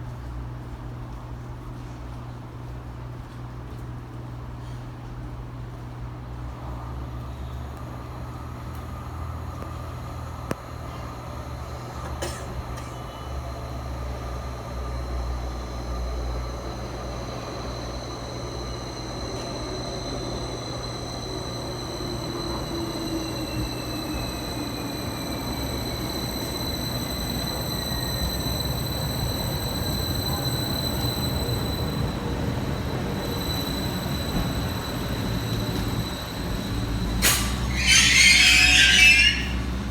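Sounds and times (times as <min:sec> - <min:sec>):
train motor whine: 0:07.1 - 0:39.9.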